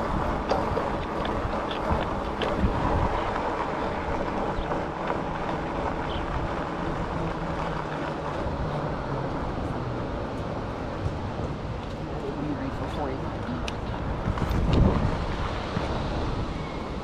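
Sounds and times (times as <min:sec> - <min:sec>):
bicycle tyre and road noise: 0:00.0 - 0:17.0
wind rushing over microphone: 0:00.0 - 0:17.0.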